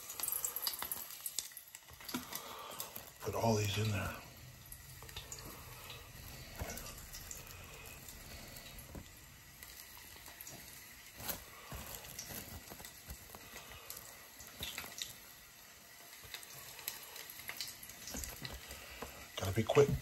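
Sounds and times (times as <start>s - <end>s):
hot oil sizzling: 0.0s - 20.0s
crackles and rustles: 0.1s - 20.0s.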